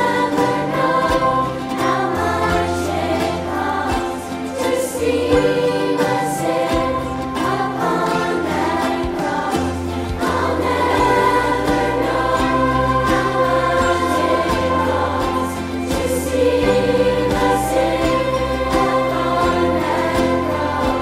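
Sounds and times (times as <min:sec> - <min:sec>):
children's choir singing: 0:00.0 - 0:21.0
instrumental accompaniment: 0:00.0 - 0:21.0.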